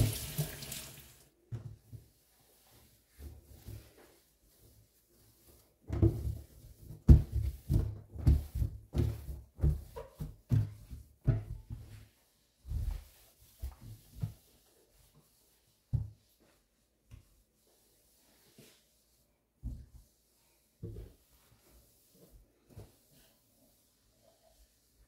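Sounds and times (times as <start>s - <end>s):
cloth rubbing on steel sink: 1.5s - 25.0s.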